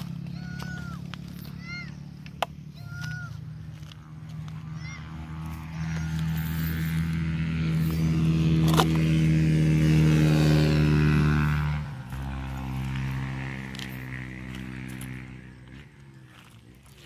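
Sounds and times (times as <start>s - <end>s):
two-stroke motorcycle engine running: 0.0s - 17.0s.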